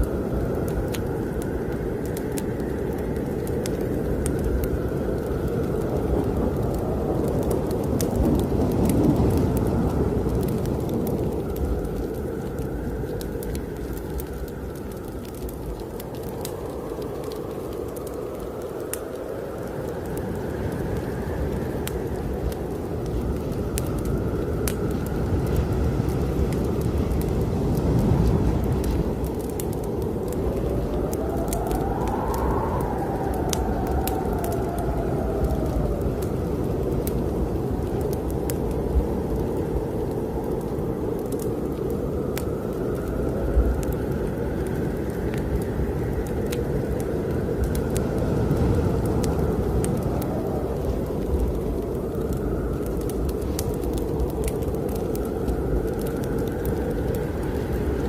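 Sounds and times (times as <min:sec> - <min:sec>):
blizzard wind blowing: 0:00.0 - 0:58.0
wood fire crackling: 0:00.0 - 0:58.0.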